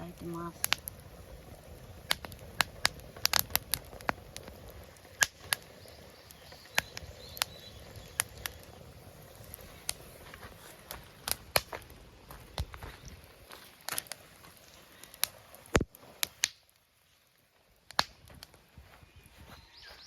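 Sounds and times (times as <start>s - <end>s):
low hiss: 0.0s - 19.8s
campfire crackling and popping: 0.0s - 20.0s.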